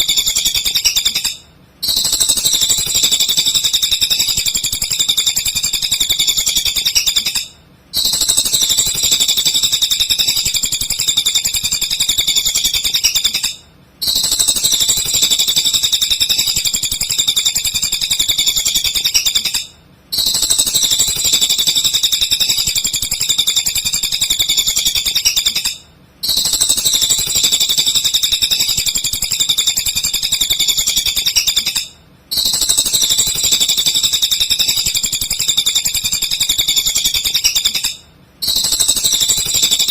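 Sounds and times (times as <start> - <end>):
songbird high-pitched chattering: 0.0 - 39.9.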